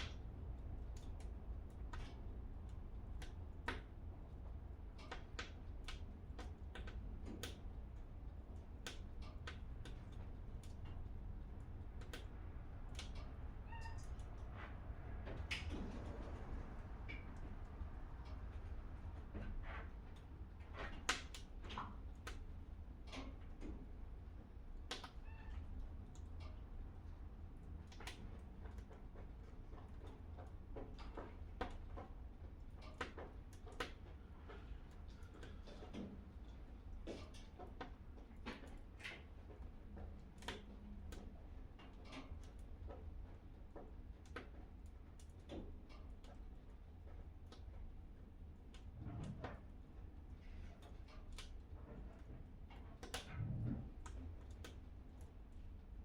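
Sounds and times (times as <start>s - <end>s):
fire low rumble: 0.0s - 56.0s
wood fire popping and snapping: 0.0s - 56.0s.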